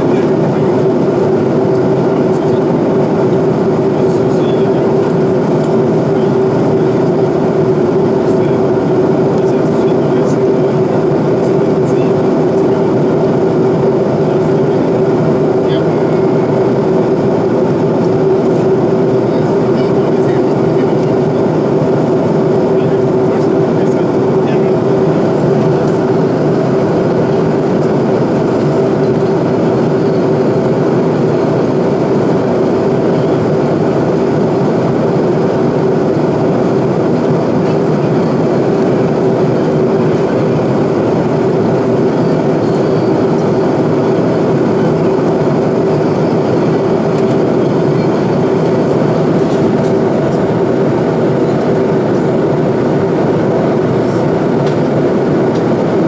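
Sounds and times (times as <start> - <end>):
airplane cabin noise: 0.0 - 56.0.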